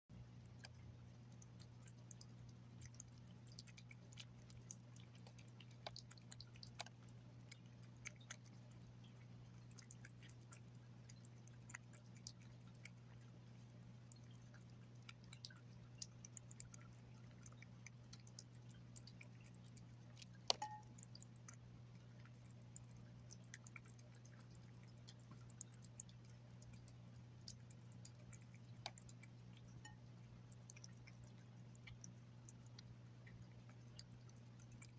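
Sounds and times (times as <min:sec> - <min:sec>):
cat chewing wet food: 0:00.1 - 0:34.9
low steady hum: 0:00.1 - 0:34.9.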